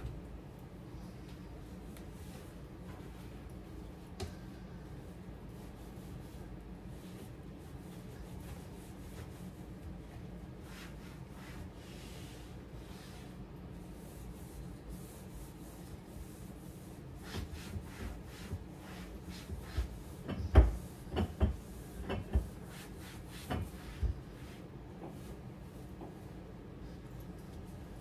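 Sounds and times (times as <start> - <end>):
cloth wiping cabinet doors: 1.0 - 27.0.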